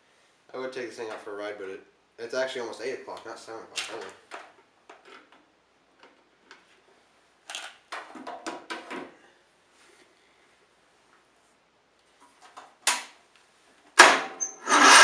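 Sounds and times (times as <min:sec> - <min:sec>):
faint background hiss: 0:00.0 - 0:14.7.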